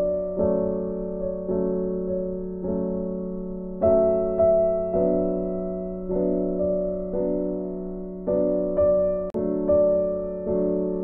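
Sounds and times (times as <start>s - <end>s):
gentle piano chords: 0.0s - 11.0s.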